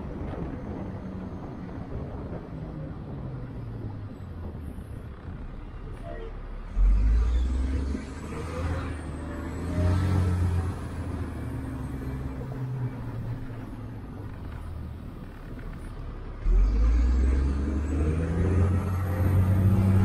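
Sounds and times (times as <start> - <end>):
bus engine hum: 0.0 - 20.0
deep rumble: 0.0 - 20.0
road noise: 0.0 - 20.0.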